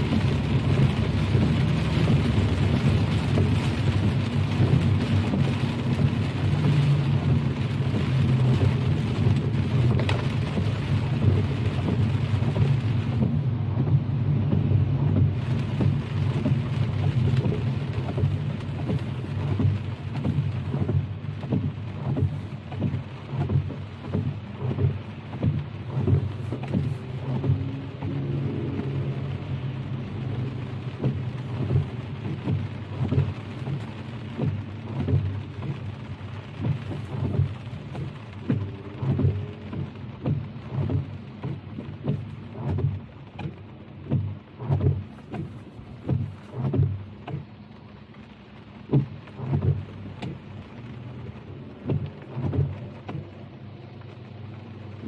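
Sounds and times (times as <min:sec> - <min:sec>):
rain pattering on a car: 0:00.0 - 0:55.0.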